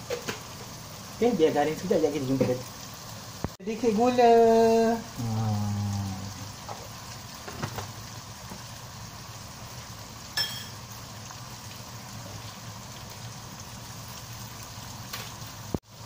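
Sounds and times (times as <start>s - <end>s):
sauce sizzling in oil: 0.0s - 16.0s.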